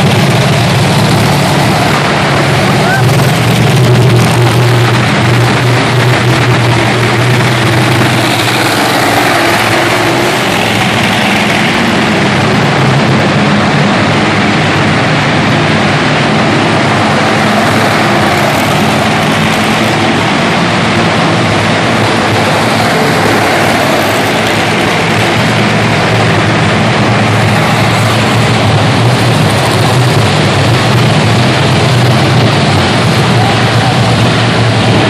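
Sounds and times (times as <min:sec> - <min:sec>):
truck engines running loud: 0:00.0 - 0:35.0.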